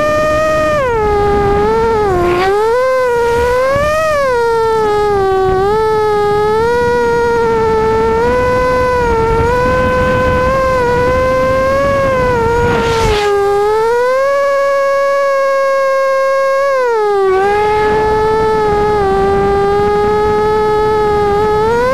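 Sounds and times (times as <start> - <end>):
rush of noise: 0.0 - 16.5, 17.1 - 21.9
quadcopter motors whining: 0.0 - 21.9.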